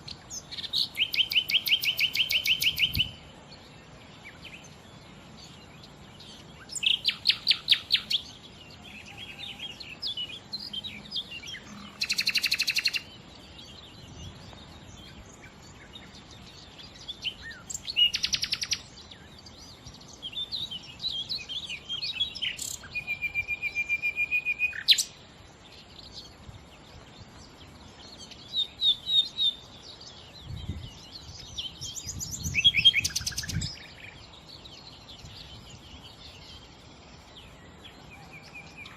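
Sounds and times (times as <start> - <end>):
nightingale singing: 0.0 - 38.9.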